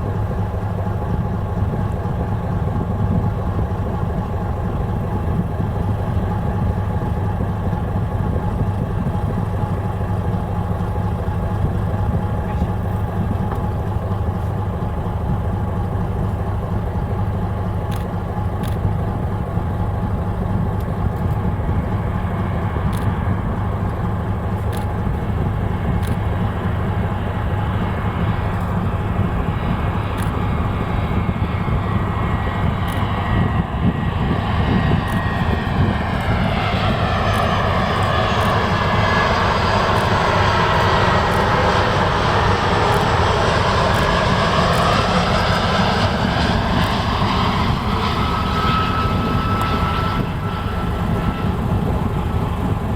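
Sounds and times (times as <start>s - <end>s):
airliner jet engines: 0.0s - 52.9s
boat engine idling: 0.0s - 52.9s.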